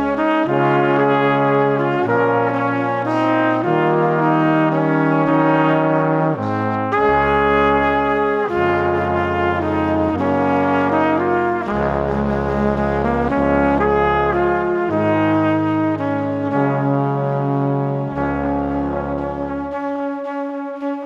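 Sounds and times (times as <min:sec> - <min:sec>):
low bass line: 0:00.0 - 0:19.8.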